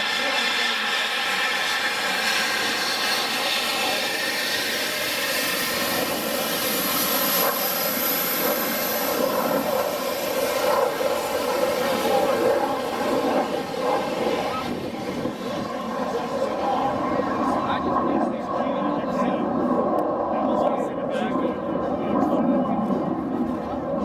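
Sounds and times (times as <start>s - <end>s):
jet engine roaring: 0.0s - 24.0s.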